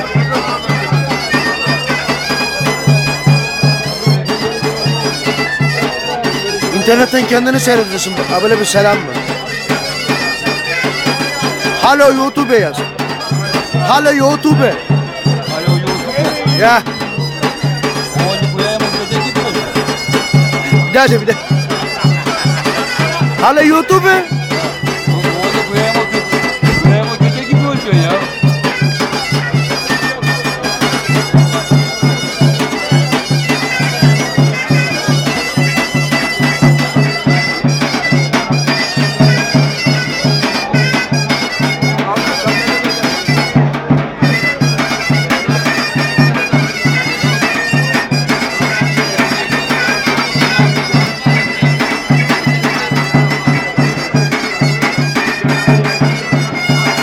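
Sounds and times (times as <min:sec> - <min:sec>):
bagpipe playing fast folk tune: 0:00.0 - 0:57.0.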